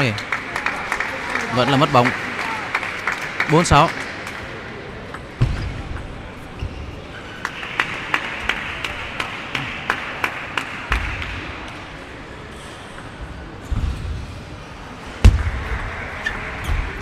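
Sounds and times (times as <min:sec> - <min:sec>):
murmur in hall: 0:00.0 - 0:17.0.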